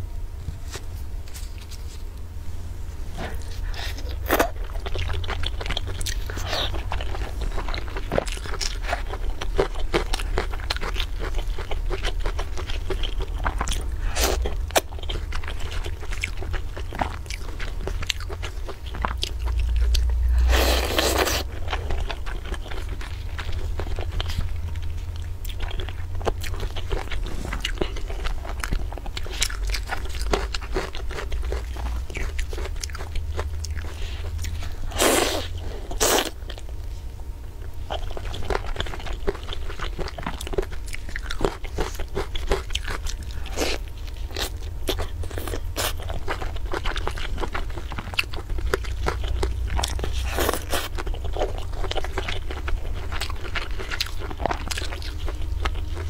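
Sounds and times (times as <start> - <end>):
steady low hum: 0.0 - 56.0
chewing and crunching food: 3.1 - 56.0.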